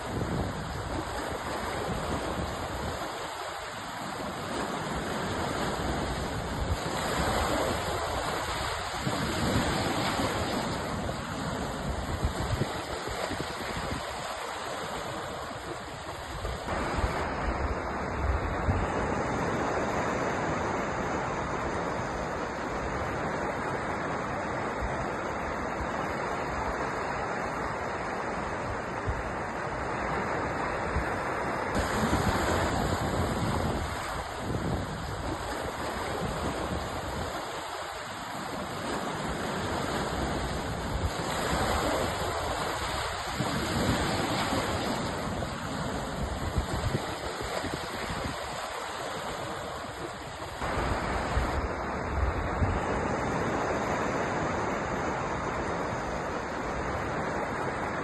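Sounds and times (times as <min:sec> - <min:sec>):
sea surf: 0:00.0 - 0:58.0.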